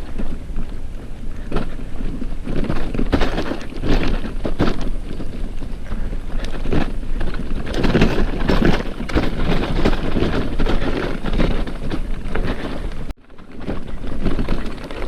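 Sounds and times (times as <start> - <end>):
bicycle rattling over dirt trail: 0.0 - 15.0
wind buffeting microphone: 0.0 - 15.0.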